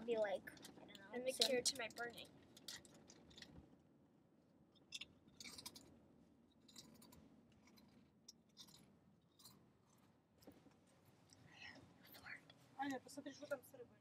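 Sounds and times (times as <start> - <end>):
faint clicks and rustles: 0.0 - 3.9, 4.7 - 14.0.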